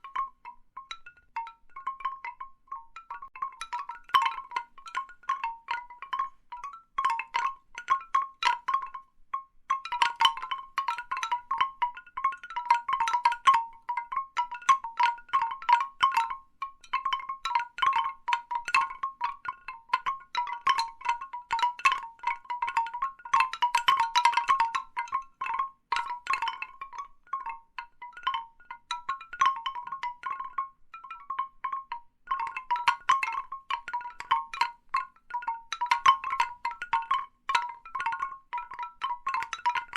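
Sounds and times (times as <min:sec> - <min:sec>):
bamboo wind chimes clacking: 0:00.0 - 0:39.9.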